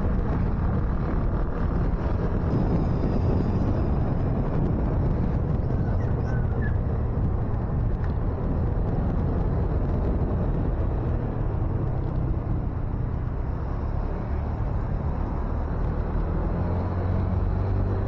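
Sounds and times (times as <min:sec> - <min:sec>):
motorcycle running: 0:00.0 - 0:18.0
wind rumble on microphone: 0:00.0 - 0:18.0.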